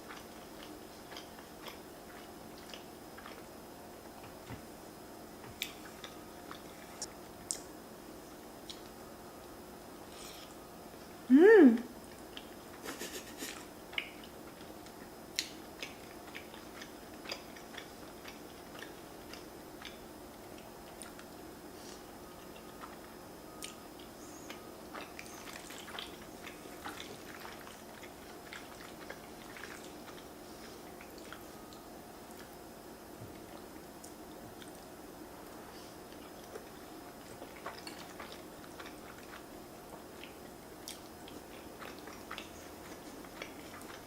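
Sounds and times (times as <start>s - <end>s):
person chewing food: 0.0s - 4.6s, 5.4s - 7.7s, 8.6s - 9.0s, 12.0s - 44.0s
faint steady hum: 0.0s - 44.0s.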